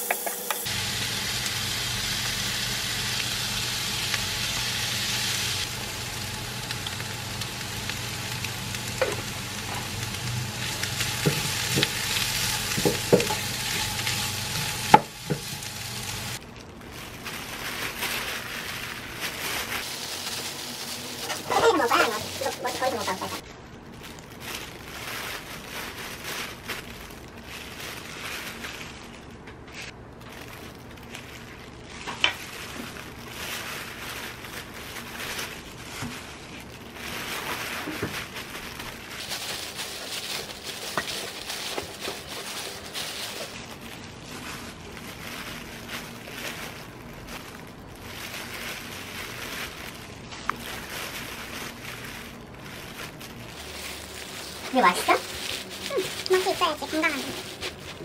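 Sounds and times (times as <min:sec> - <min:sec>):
plastic gloves rustling: 0:00.0 - 0:58.0.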